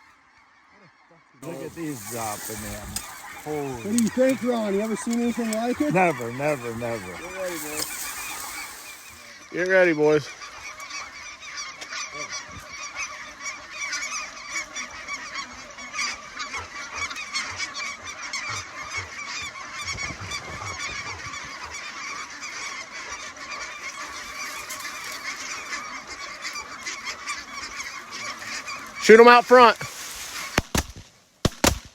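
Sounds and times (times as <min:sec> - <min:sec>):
geese honking and yelping: 0:00.0 - 0:30.8.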